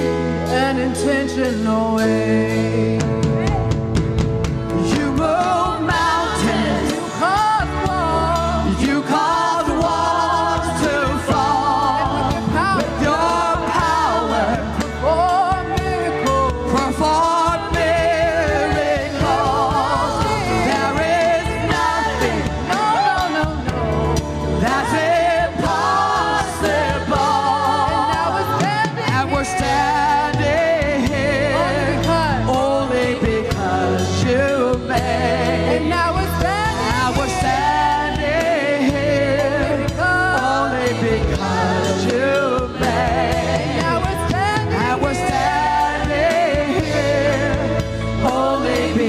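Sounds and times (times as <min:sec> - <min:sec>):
lead voice singing gospel: 0:00.0 - 0:49.0
sustained keys and bass: 0:00.0 - 0:49.0
choir backing vocals: 0:04.8 - 0:49.0.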